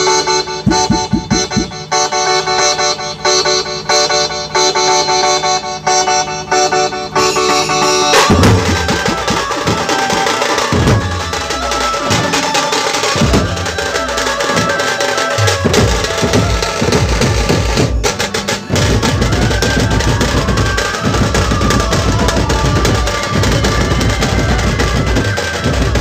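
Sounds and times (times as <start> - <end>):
drums playing fast rhythm: 0.0 - 2.8, 6.7 - 26.0.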